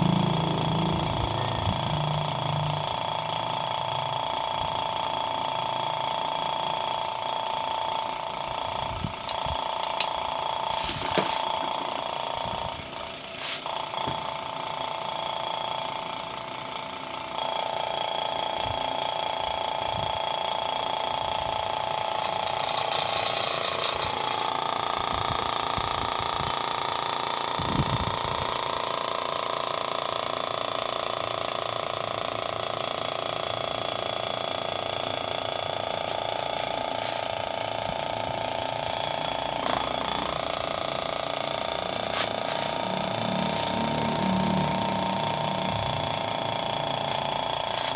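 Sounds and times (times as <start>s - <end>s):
vacuum pump running: 0.0s - 47.9s.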